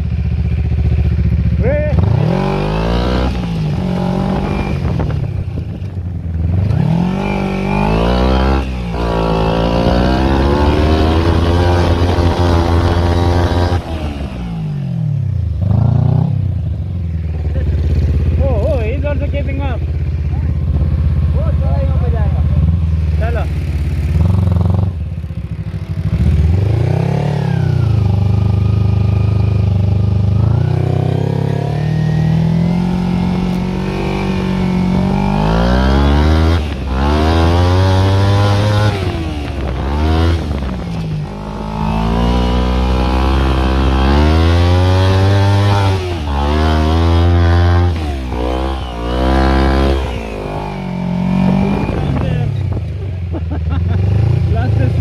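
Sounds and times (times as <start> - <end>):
small petrol engine revving: 1.9 - 16.7, 17.3 - 55.0.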